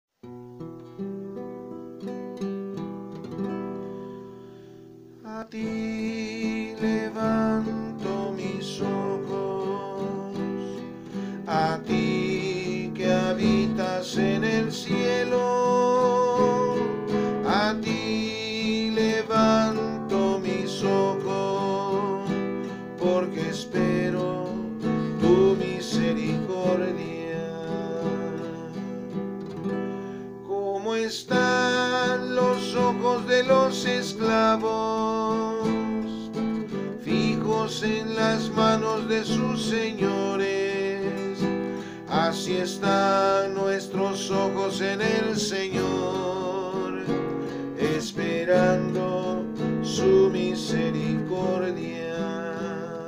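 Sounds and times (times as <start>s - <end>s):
acoustic guitar playing: 0.1s - 53.0s.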